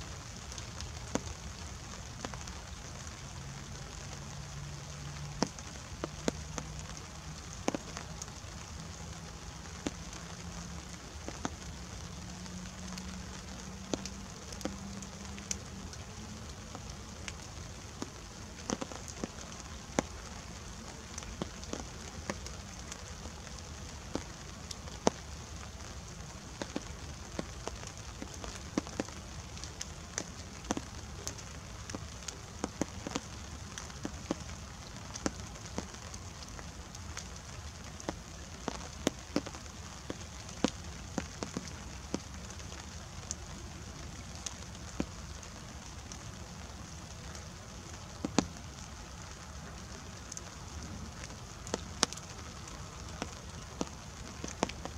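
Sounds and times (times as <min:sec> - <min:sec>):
light rain pattering: 0:00.0 - 0:54.9.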